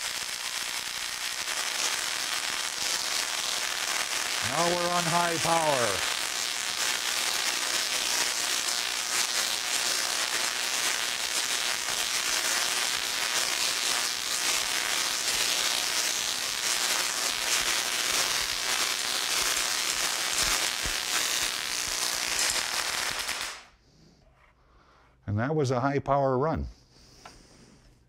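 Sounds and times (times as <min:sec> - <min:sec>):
tesla coil sparks crackling: 0:00.0 - 0:23.7.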